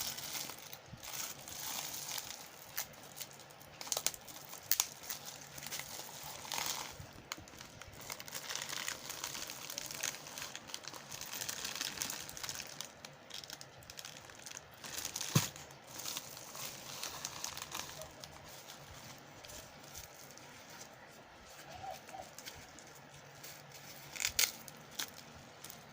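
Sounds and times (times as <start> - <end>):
packaging crinkling: 0.0 - 25.9.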